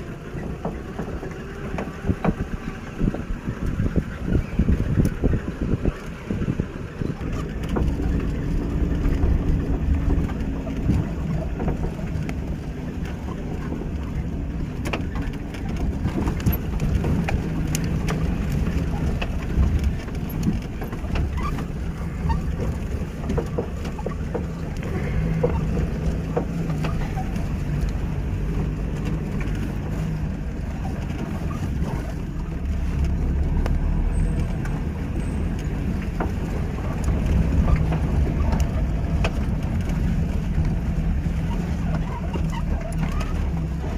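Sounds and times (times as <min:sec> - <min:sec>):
engine and tyre rumble: 0:00.0 - 0:43.9
knocks and rattles from bumps: 0:00.0 - 0:43.9.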